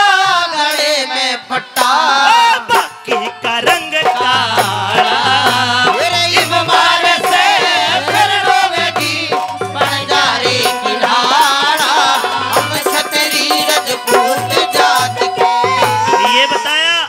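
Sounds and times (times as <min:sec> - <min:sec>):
repeating drum beat: 0:01.8 - 0:17.0.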